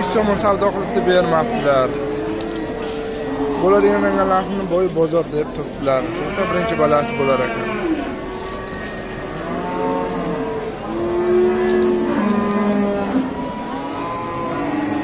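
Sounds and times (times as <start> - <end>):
cattle mooing: 0.0 - 4.5, 5.9 - 15.0.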